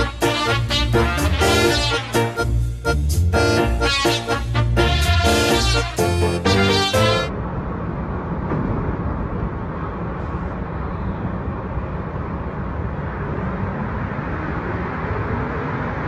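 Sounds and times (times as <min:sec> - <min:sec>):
subway train low noise: 0:00.0 - 0:16.0.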